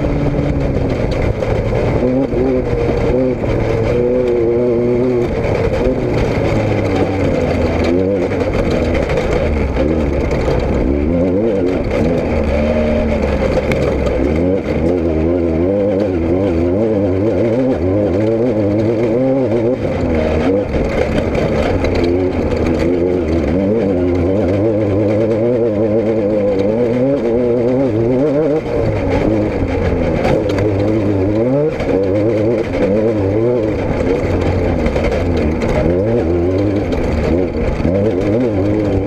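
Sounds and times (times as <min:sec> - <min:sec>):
engine running loudly: 0:00.0 - 0:39.0.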